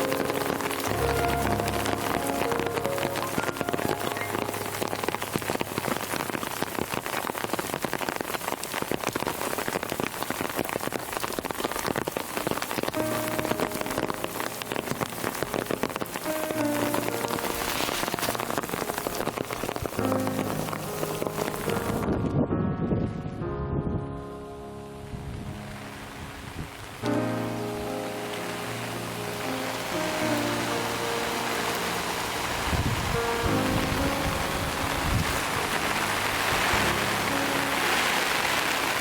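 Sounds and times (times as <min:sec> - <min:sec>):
soft background music: 0:00.0 - 0:06.9, 0:12.9 - 0:39.0
heavy rain falling: 0:00.0 - 0:22.2, 0:25.2 - 0:39.0.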